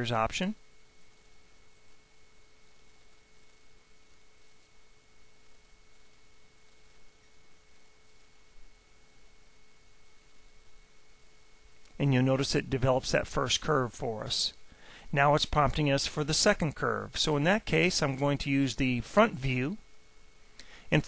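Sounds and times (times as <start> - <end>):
low hiss: 0.0 - 21.0.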